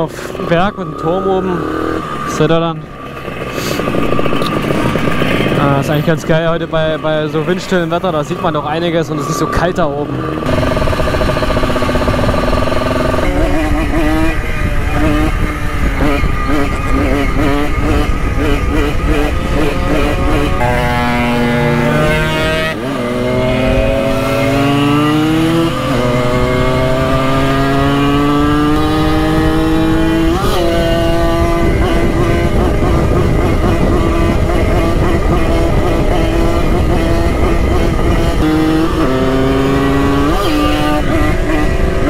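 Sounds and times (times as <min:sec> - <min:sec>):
moped engine accelerating: 0:00.0 - 0:42.0
wind on microphone: 0:03.2 - 0:06.6, 0:10.2 - 0:42.0.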